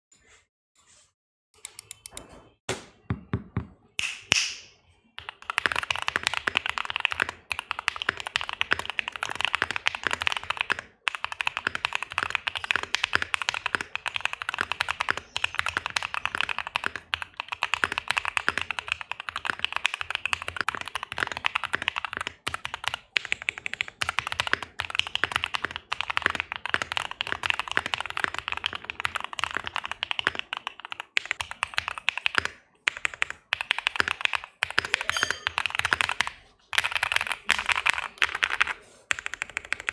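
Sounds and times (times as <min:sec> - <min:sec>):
mechanical keyboard typing: 0:05.2 - 0:39.9.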